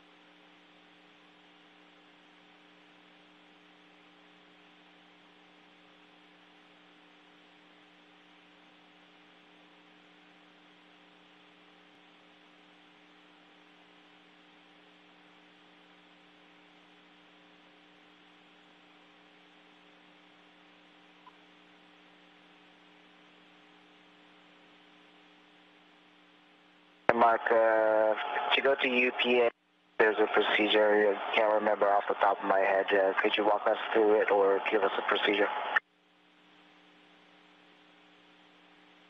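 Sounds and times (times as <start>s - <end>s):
faint hum with hiss: 0.0s - 39.0s.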